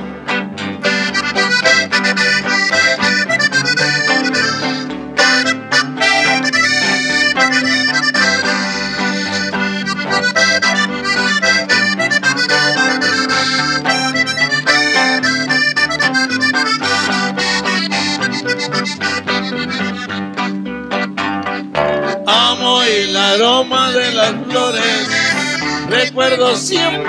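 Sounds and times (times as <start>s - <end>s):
button accordion melody: 0.0s - 27.0s
strummed string instrument: 0.0s - 27.0s.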